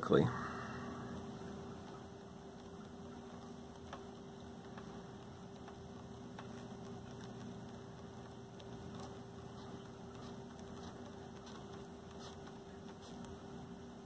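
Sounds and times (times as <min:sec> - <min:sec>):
faint steady hum: 0:00.0 - 0:14.0
light hiss: 0:00.0 - 0:14.0
soft ticks: 0:01.1 - 0:14.0.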